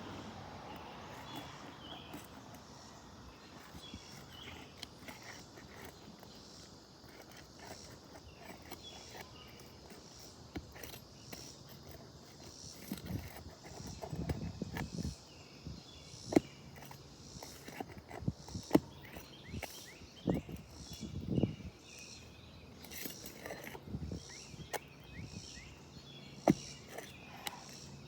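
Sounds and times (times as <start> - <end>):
insects chirping: 0.0 - 28.0
shingles scraping and rustling: 0.0 - 28.0.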